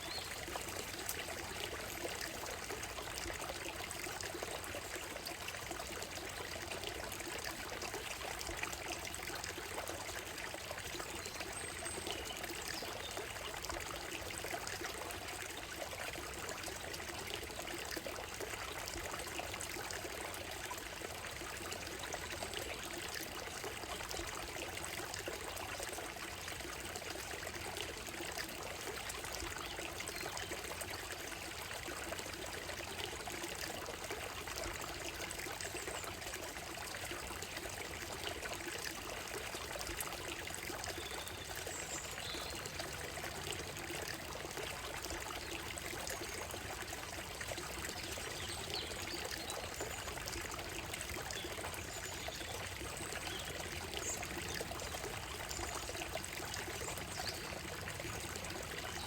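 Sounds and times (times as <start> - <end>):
stream babbling over stones: 0.0 - 59.0.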